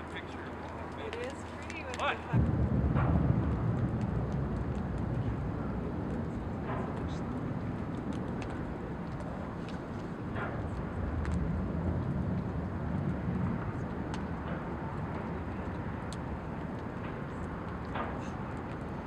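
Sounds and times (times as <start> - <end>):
wood fire crackling: 0.0 - 19.0
low rumble: 2.2 - 19.0.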